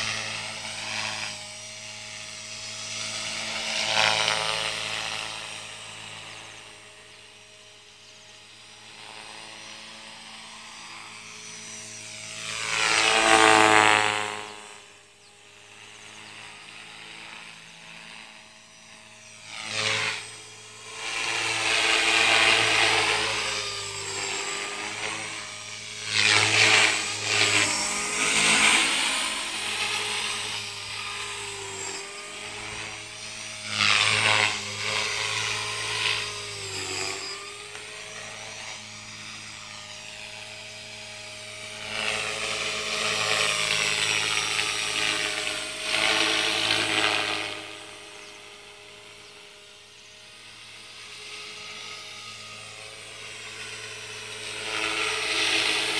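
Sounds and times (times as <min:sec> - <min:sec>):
rc helicopter rotor whine: 0:00.0 - 0:55.9.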